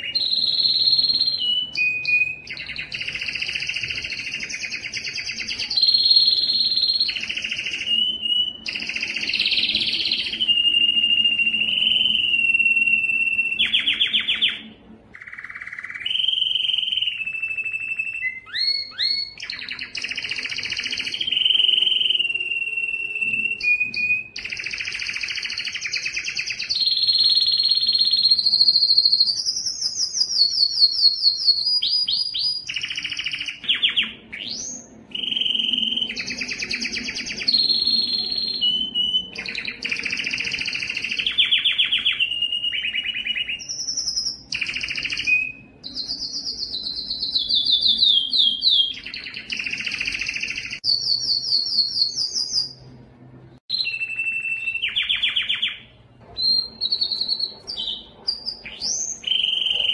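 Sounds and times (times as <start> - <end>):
canary singing trills: 0.0 - 52.9, 53.6 - 59.9.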